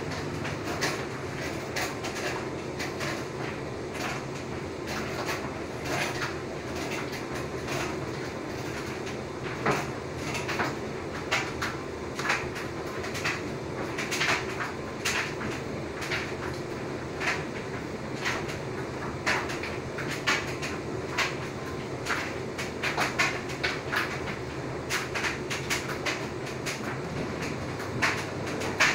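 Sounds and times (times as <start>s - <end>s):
washing machine motor humming: 0.0s - 28.9s.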